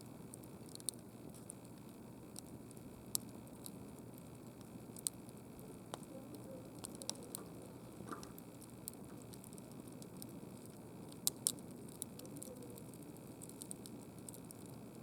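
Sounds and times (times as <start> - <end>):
campfire crackling and popping: 0.0 - 15.0
low rush of flames: 0.5 - 15.0.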